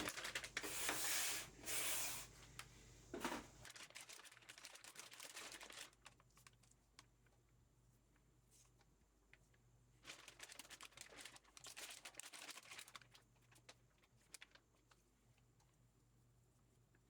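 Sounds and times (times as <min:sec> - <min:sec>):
faint crinkling and crackling: 0:00.0 - 0:01.1, 0:02.3 - 0:17.0.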